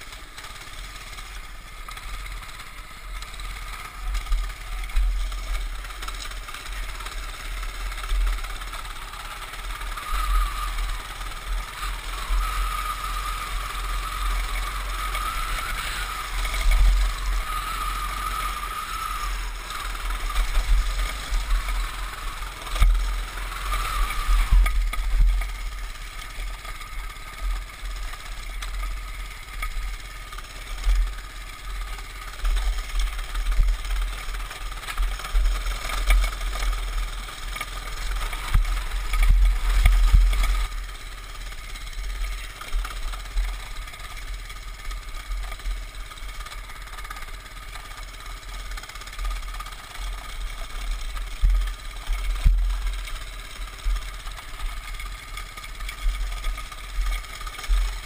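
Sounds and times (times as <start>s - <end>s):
mini bike engine running: 0.0s - 58.0s.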